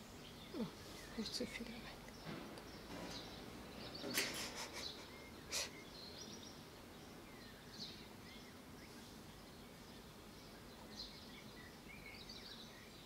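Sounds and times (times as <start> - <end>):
faint outdoor ambience: 0.0 - 13.0
soft bird chirps: 0.0 - 13.0.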